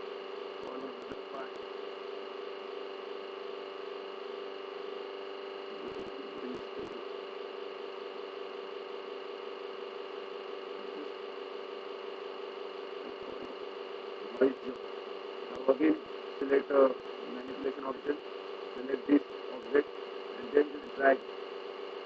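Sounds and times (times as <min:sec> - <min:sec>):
background hum with tones: 0:00.0 - 0:22.0.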